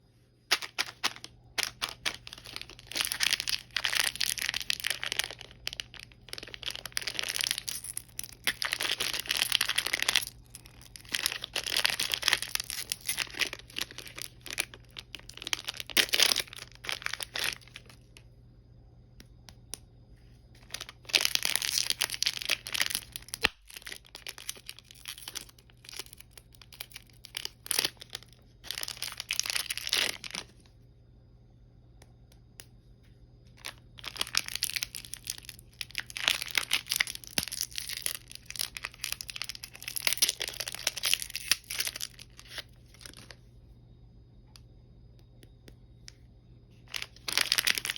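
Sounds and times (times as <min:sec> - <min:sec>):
candy wrappers crinkling: 0:00.5 - 0:18.2, 0:20.6 - 0:30.7, 0:33.5 - 0:43.4, 0:46.8 - 0:47.9.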